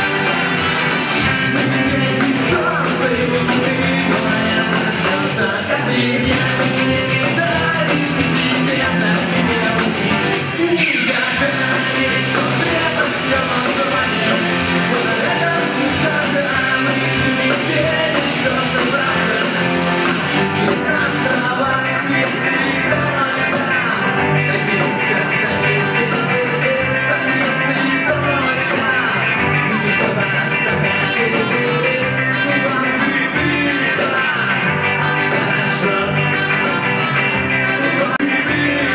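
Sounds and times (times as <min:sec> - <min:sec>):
drums playing a steady beat: 0:00.0 - 0:38.9
electric guitar: 0:00.0 - 0:38.9
person singing: 0:00.0 - 0:38.9.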